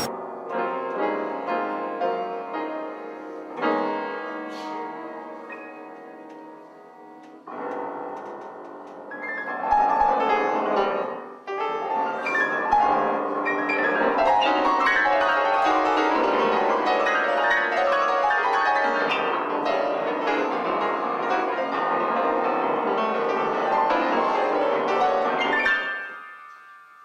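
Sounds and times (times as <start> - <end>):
classical piano music: 0.0 - 27.0.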